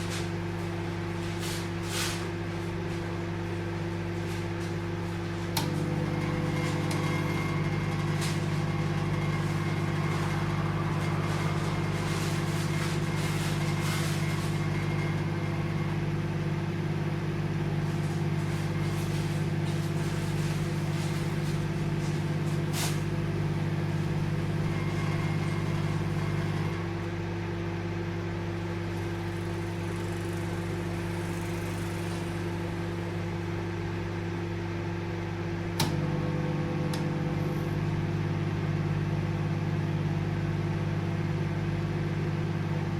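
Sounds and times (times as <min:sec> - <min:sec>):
microwave oven humming: 0:00.0 - 0:42.9.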